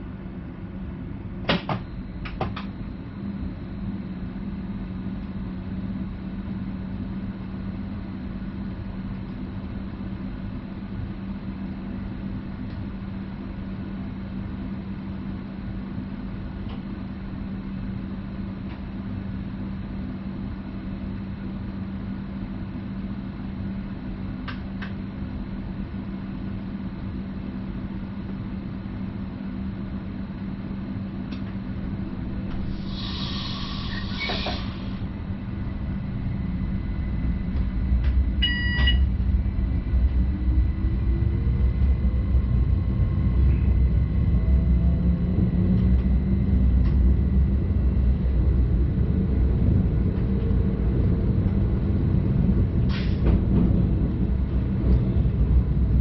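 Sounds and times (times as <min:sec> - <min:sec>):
electric train hum: 0:00.0 - 0:56.0.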